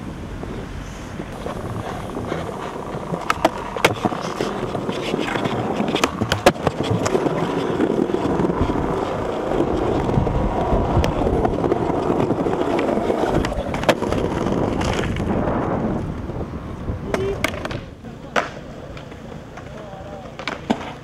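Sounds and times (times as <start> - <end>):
skateboard wheels rolling on tiles: 1.3 - 21.0.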